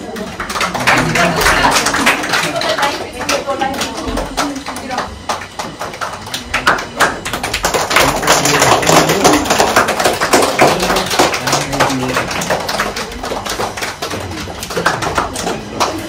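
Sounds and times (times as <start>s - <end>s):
rapid tapping and clicking: 0.0s - 16.0s
voices: 0.0s - 16.0s.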